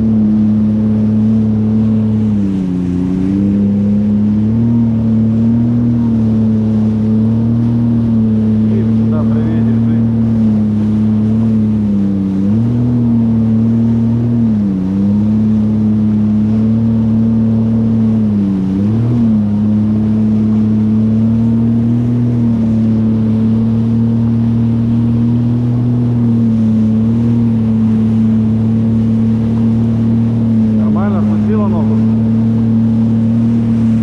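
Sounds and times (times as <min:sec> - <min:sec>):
jet ski engine running: 0:00.0 - 0:34.0
water and wind hiss: 0:00.0 - 0:34.0.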